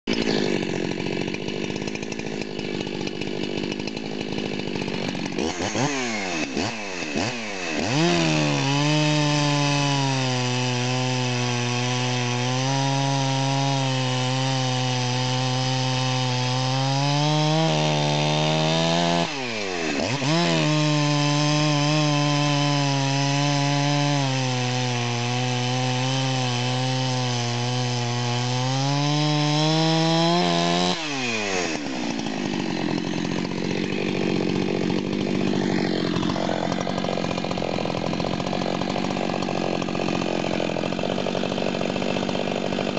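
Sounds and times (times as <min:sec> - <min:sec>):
chainsaw revving and cutting wood: 0:00.0 - 0:42.9.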